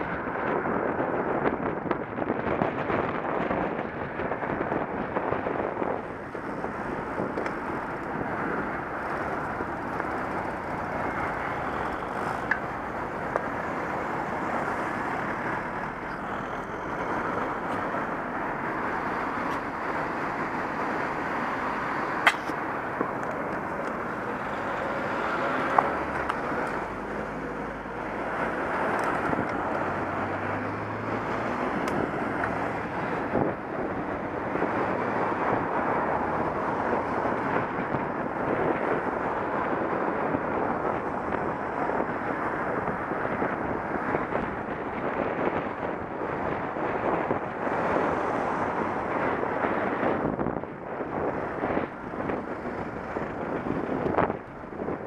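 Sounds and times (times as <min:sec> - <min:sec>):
wind on camera microphone: 0:00.0 - 0:55.0.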